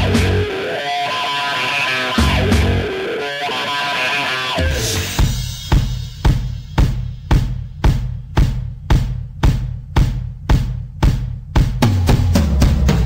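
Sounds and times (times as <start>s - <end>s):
rock drum beat: 0.0s - 3.2s, 3.8s - 13.0s.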